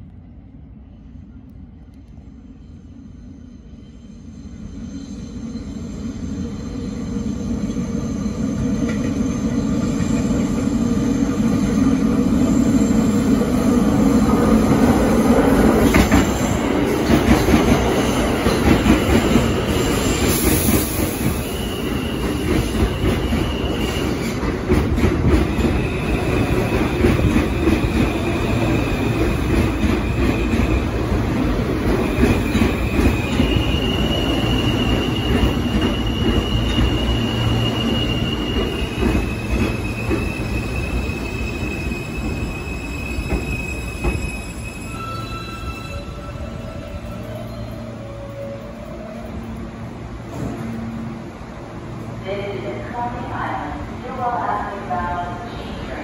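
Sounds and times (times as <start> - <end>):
subway train running noise: 0.0 - 56.0.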